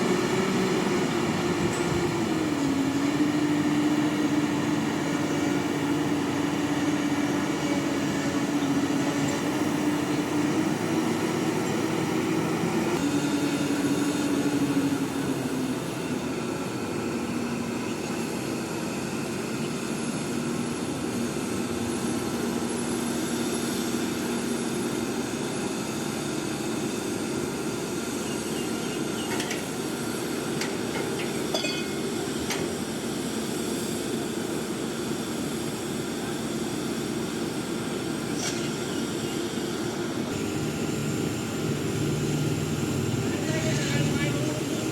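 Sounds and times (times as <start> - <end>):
crane diesel engine running: 0.0 - 44.9.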